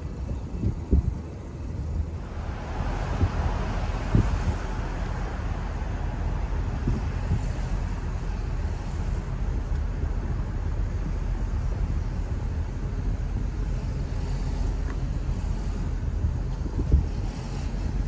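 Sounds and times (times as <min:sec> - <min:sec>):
car engine: 0:00.0 - 0:18.0
road and tyre noise: 0:00.0 - 0:18.0.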